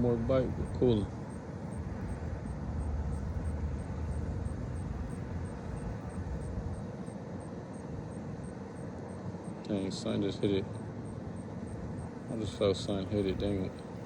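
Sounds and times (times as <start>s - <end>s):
distant engine rumble: 0.0s - 14.0s.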